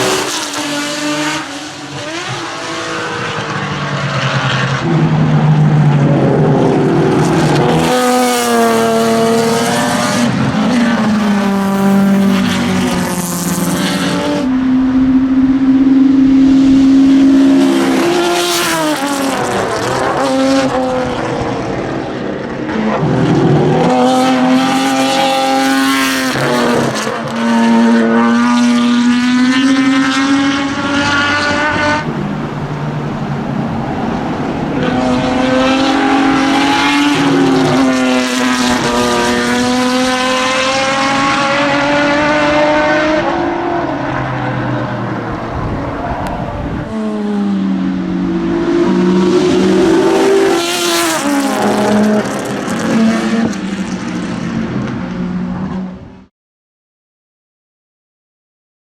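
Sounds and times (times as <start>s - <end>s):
race car engine at high revs: 0.0s - 56.3s.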